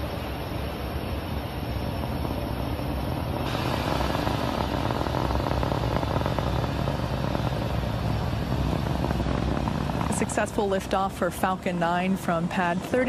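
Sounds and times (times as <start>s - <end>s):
rocket engines roaring: 0.0s - 13.0s.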